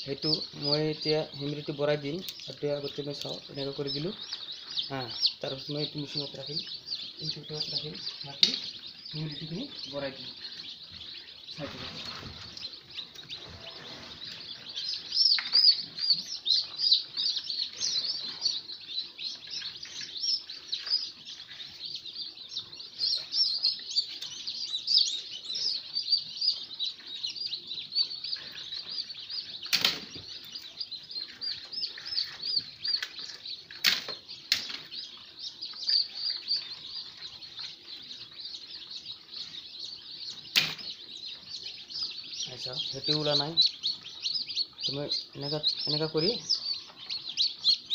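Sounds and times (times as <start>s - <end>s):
chicks peeping: 0.0s - 47.9s.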